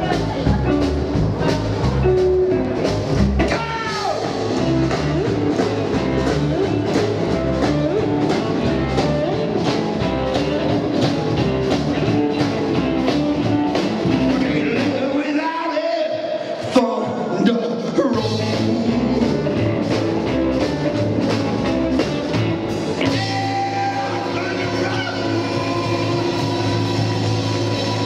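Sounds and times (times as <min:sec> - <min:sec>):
rockabilly band playing: 0:00.0 - 0:28.0.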